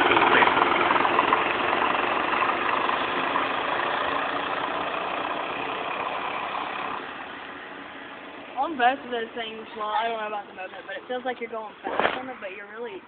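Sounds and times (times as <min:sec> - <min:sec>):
small engines racing: 0:00.0 - 0:12.5.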